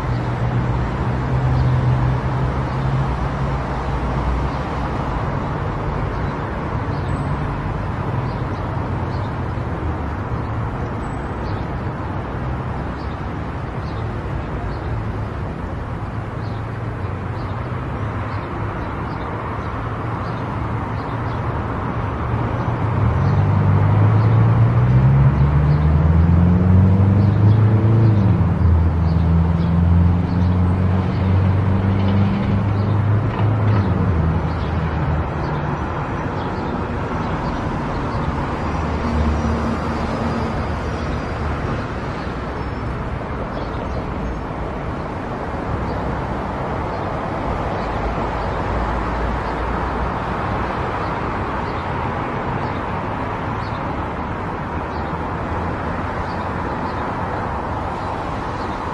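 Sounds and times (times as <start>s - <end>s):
tyre and road noise: 0.0s - 58.9s.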